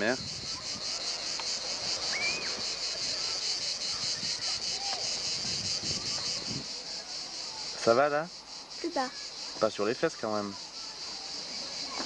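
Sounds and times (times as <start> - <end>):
cicadas singing: 0.0 - 12.0.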